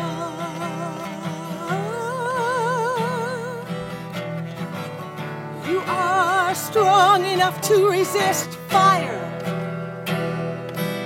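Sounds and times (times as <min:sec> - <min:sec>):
person singing with vibrato: 0:00.0 - 0:04.2, 0:05.5 - 0:11.0
guitar accompaniment: 0:00.0 - 0:11.0.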